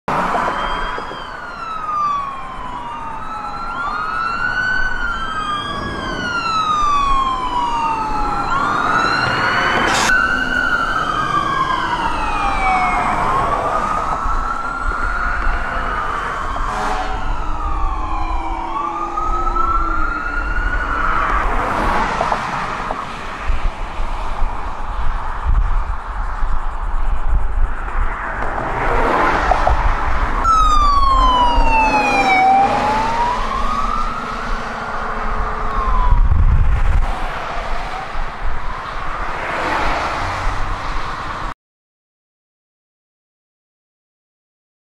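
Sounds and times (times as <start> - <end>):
emergency vehicle sirens wailing: 0.1 - 41.6
road traffic rumble: 0.1 - 41.6.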